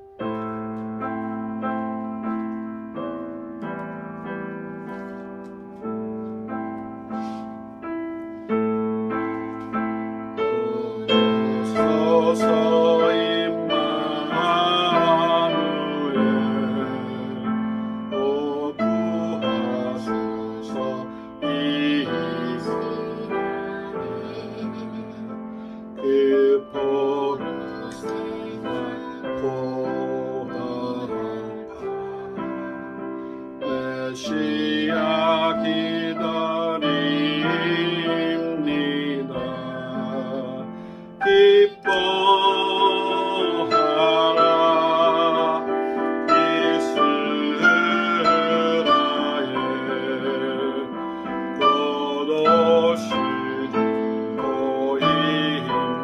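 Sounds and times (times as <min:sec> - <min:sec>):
piano accompaniment: 0:00.0 - 0:56.0
voices singing a hymn: 0:08.4 - 0:56.0.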